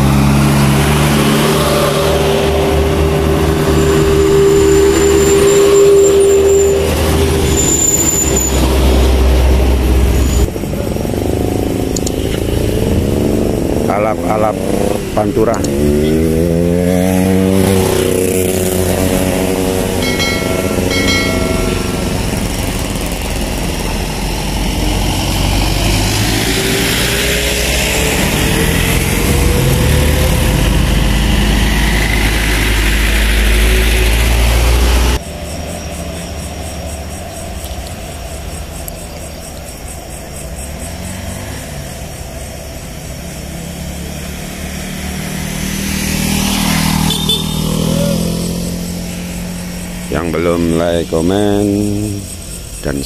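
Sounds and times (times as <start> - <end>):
heavy truck engines under load: 0.0 - 53.0
traffic engine noise: 0.0 - 53.0.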